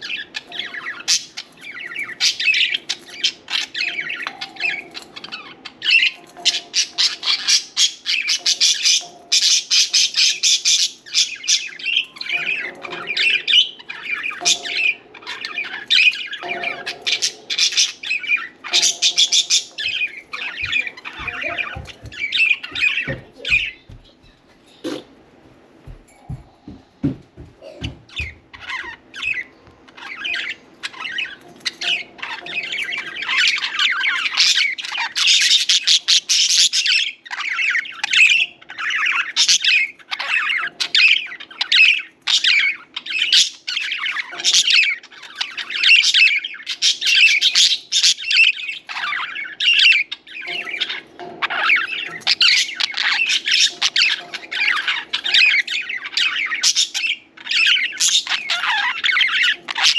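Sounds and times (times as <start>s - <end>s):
budgies chirping: 0.0s - 25.2s, 25.8s - 59.9s.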